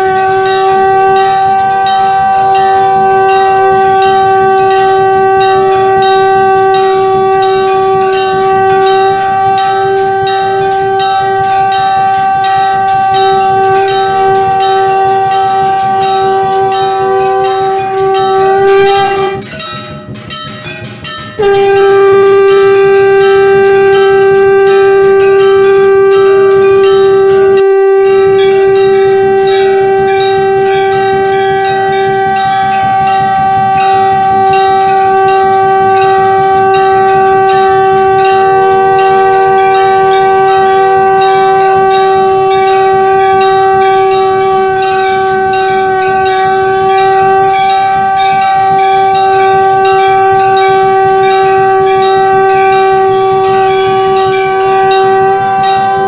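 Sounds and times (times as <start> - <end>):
conch shell blast: 0.0 - 19.6, 21.4 - 56.0
temple bells ringing: 0.0 - 56.0.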